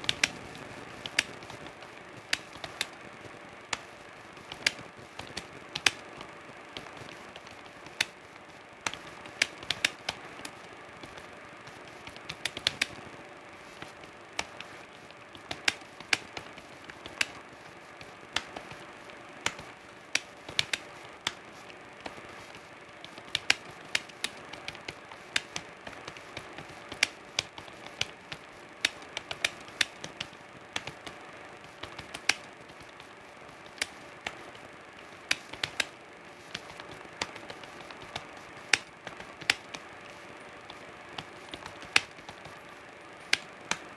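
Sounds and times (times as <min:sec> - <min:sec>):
computer keyboard typing: 0:00.0 - 0:43.9.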